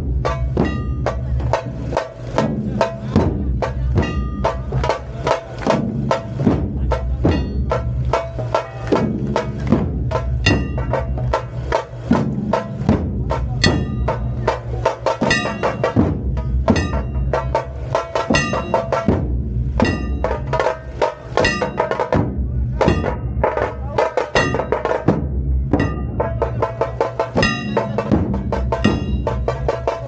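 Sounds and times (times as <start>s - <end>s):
barrel drums beaten with sticks: 0.0s - 30.0s.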